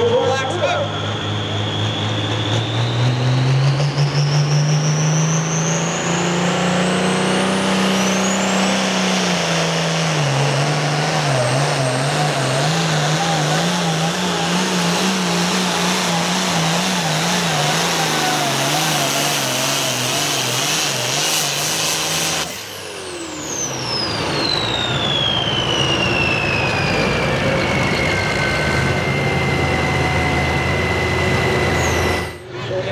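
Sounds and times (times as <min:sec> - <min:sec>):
high turbo whine: 0:00.0 - 0:32.9
tractor diesel engine at full power: 0:00.0 - 0:32.9.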